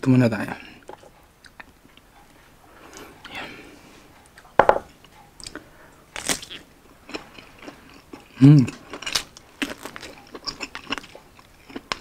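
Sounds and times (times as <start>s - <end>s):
biting and chewing sausage: 0.8s - 3.4s, 4.2s - 12.0s.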